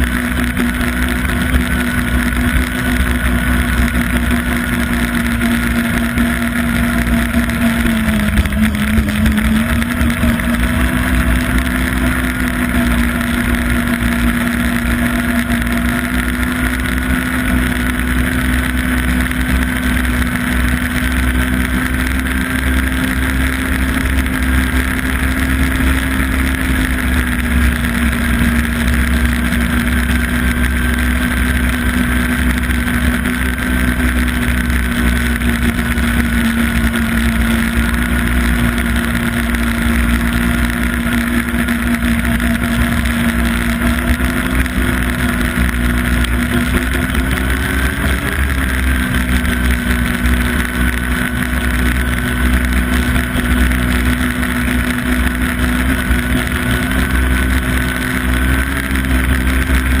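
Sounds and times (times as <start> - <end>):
snowmobile engine running: 0.0 - 60.0.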